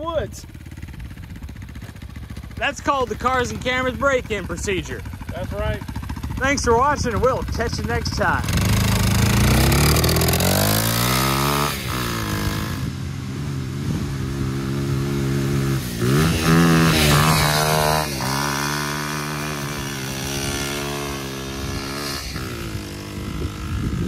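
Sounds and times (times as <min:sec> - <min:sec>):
go-kart engine revving: 0:00.0 - 0:24.0.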